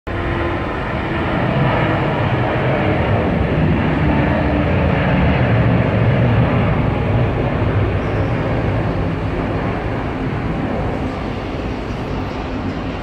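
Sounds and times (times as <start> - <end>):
jet engines rumbling: 0.1 - 13.0.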